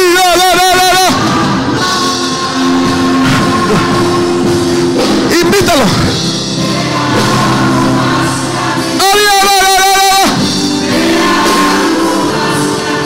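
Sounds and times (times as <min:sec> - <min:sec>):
person singing with vibrato: 0:00.0 - 0:13.0
held chords: 0:01.1 - 0:13.0.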